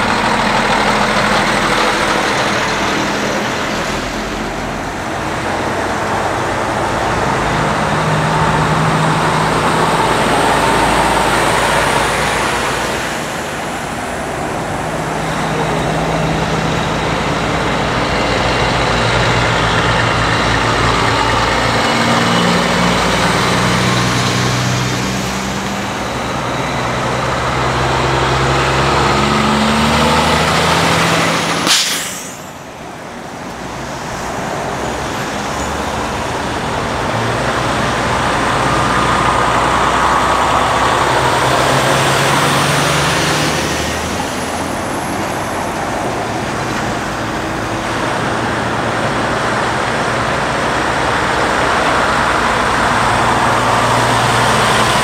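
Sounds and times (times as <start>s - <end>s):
trucks driving past: 0.0s - 55.0s
tyre and road noise: 0.0s - 55.0s.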